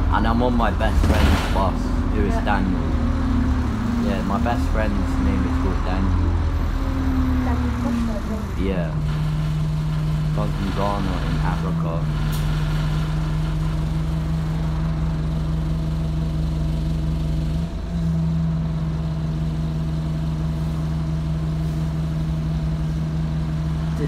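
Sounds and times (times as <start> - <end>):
bus engine humming: 0.0 - 24.0.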